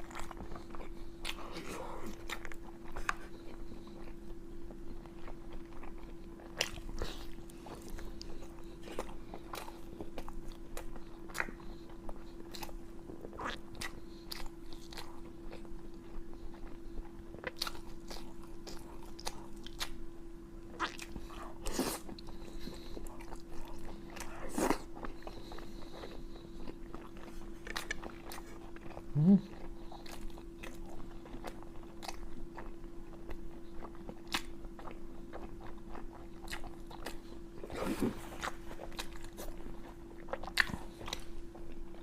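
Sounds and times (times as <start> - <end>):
person chewing crunchy meat: 0.0 - 42.0.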